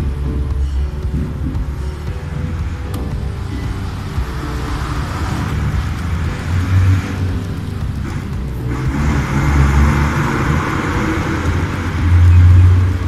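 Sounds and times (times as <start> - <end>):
motor vehicle low rumble: 0.0 - 13.0.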